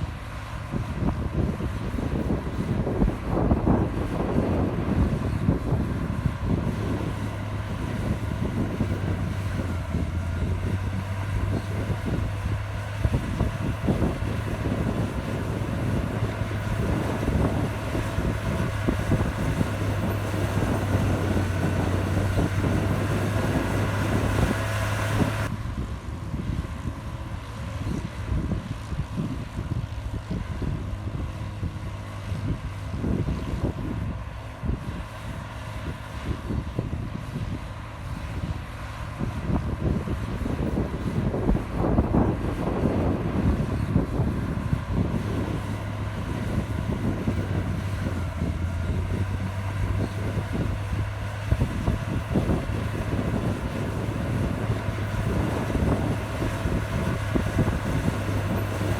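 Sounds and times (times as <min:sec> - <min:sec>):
bulldozer diesel engine: 0:00.0 - 0:58.9
wind noise on microphone: 0:00.0 - 0:58.9.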